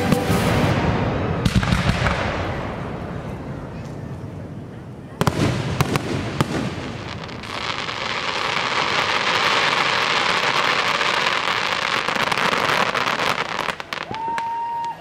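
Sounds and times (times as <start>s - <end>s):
fireworks crackling: 0.0s - 4.0s, 5.2s - 15.0s.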